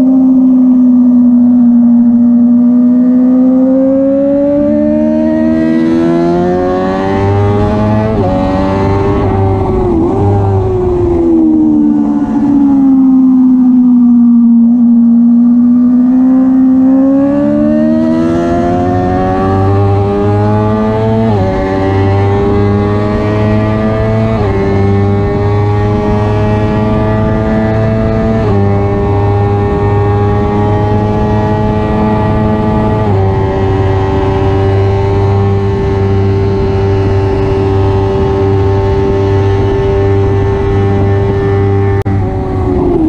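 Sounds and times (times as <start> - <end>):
race motorcycle engine: 0.0 - 43.0.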